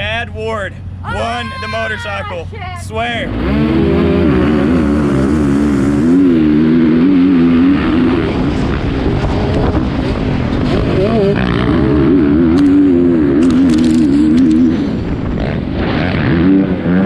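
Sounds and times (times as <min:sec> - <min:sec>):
dirt bike engine revving: 0:03.1 - 0:17.0.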